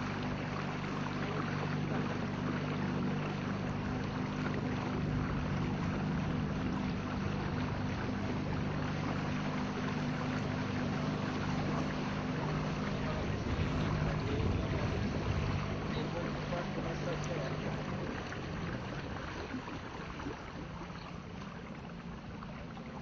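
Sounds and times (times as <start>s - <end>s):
boat motor running: 0.0s - 23.0s
wind: 0.0s - 23.0s.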